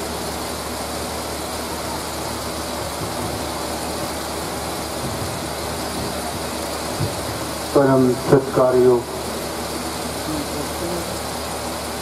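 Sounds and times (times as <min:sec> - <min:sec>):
large electric fans whirring: 0:00.0 - 0:12.0.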